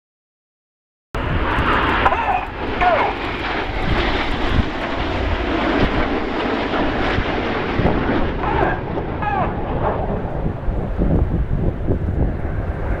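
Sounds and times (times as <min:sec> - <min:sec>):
jets flying past: 0:01.2 - 0:13.0.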